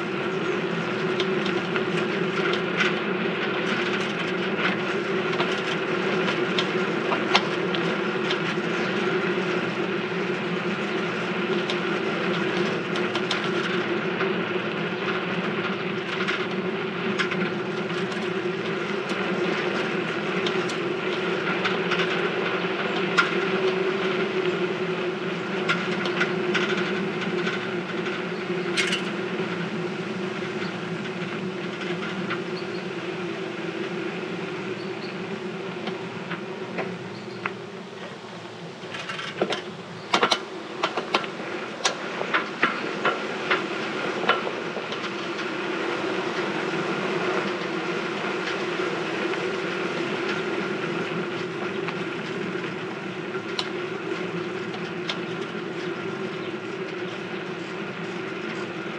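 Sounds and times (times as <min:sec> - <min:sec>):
bicycle rattles and clicks: 0:00.0 - 0:58.9
bicycle whirring drone: 0:00.0 - 0:58.9.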